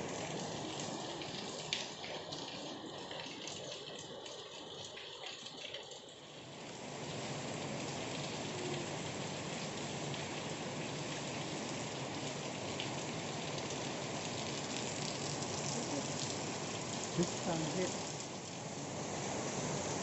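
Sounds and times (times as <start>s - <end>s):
heavy rain falling: 0.0s - 3.2s, 6.4s - 20.0s.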